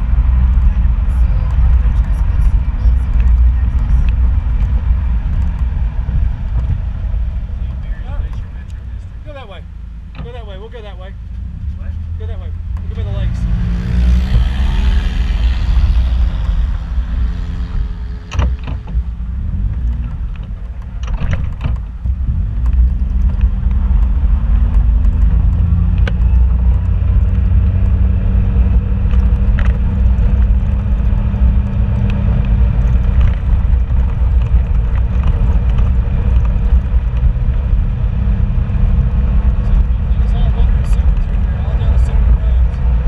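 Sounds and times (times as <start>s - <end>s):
knocks and rattles over bumps: 0.0s - 43.0s
vehicle engine and road rumble: 0.0s - 43.0s.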